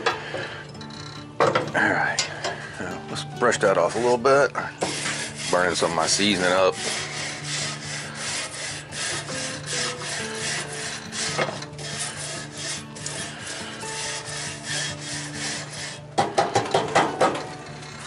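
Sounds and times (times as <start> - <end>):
wire brush scraping grill grate: 0.0 - 18.0.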